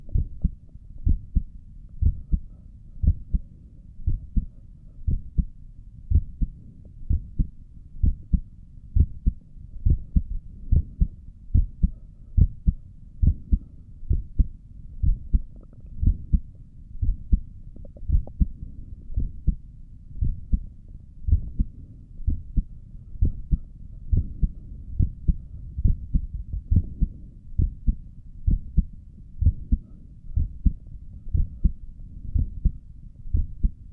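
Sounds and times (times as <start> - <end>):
heartbeat through stethoscope: 0.0 - 33.9.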